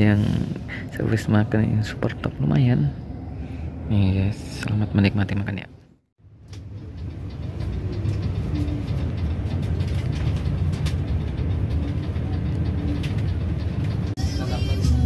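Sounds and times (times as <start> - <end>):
coach engine and road rumble: 0.0 - 15.0.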